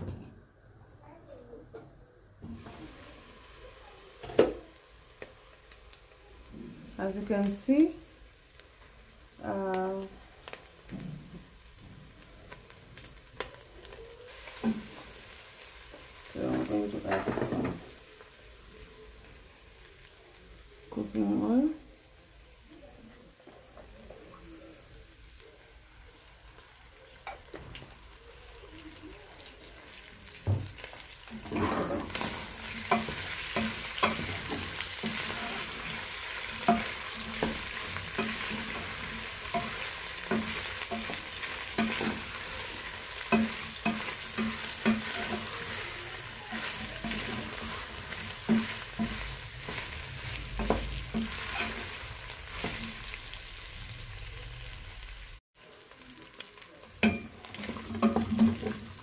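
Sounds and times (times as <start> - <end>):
meat sizzling in oil: 2.4 - 22.9, 23.8 - 59.0.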